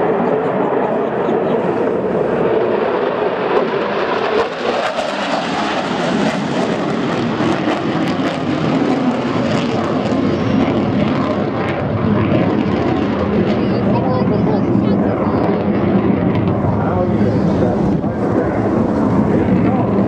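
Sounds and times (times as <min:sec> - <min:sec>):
aircraft engine flying past: 0:00.0 - 0:20.0.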